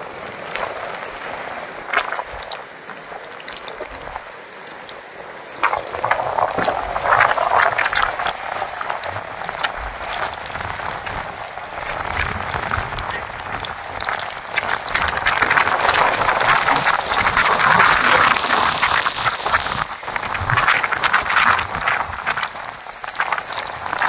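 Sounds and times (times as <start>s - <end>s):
heavy rain hissing: 0.0s - 24.0s
wind rumbling on microphone: 0.0s - 24.0s.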